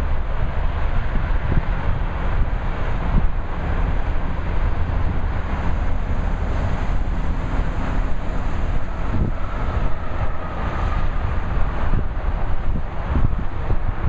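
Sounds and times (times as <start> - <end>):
truck traffic rumbling: 0.0 - 14.0
wind buffeting microphone: 0.0 - 14.0.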